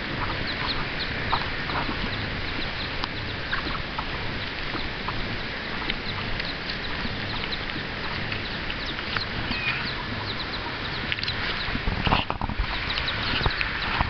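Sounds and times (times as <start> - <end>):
chickens chirping and clucking: 0.0 - 14.0
steady rushing noise: 0.0 - 14.0.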